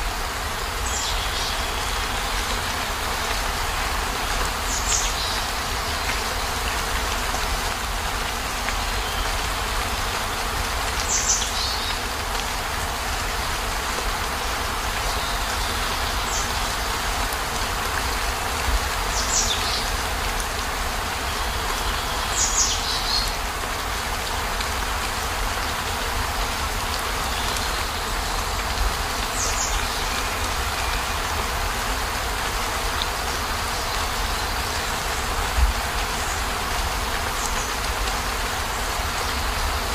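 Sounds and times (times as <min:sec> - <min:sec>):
rain on a vehicle roof: 0:00.0 - 0:39.9.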